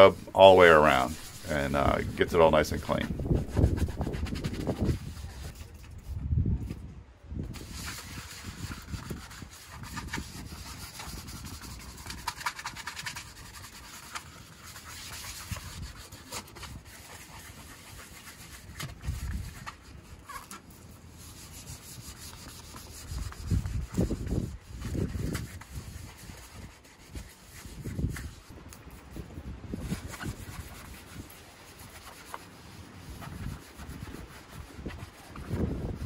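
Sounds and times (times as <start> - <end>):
sponge scrubbing a tub shell: 0.0 - 6.1, 7.5 - 36.0.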